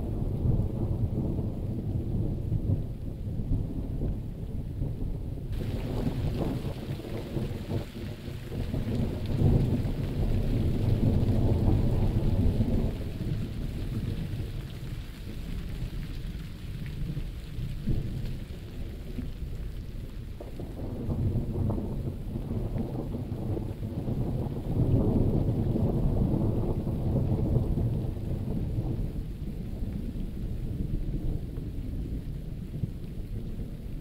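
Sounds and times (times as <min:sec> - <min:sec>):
steady rain: 0:00.0 - 0:34.0
thunder rumbling: 0:00.0 - 0:34.0.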